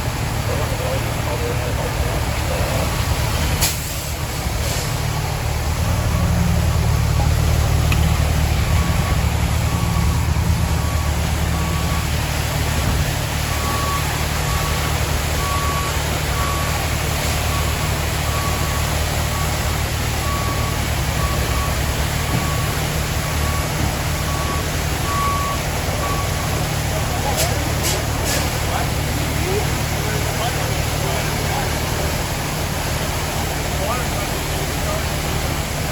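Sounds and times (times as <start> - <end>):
heavy truck engine idling: 0.0 - 35.9.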